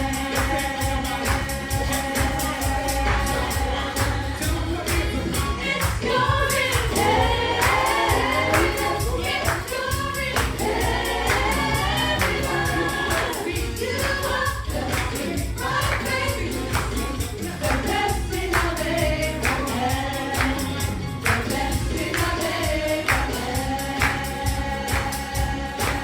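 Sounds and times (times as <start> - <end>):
choir singing gospel: 0.0 - 26.0
percussion beat: 0.0 - 26.0.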